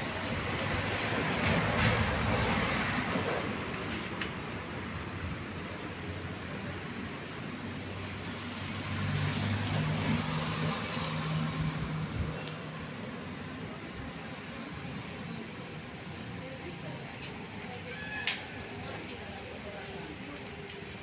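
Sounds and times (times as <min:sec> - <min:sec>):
traffic hiss: 0:00.0 - 0:21.0.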